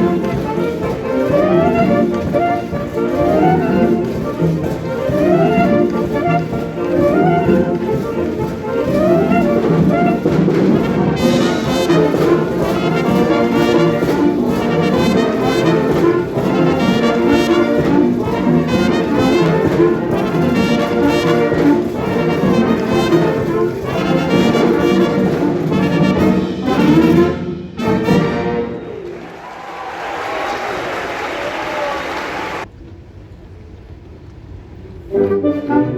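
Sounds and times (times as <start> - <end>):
concert wind band playing: 0.0 - 32.7, 34.5 - 35.9.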